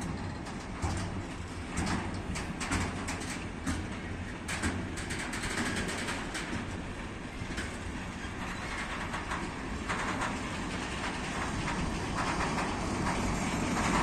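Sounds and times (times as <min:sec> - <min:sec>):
freight train rumbling past: 0:00.0 - 0:14.0
wheels clicking over rails: 0:00.0 - 0:14.0.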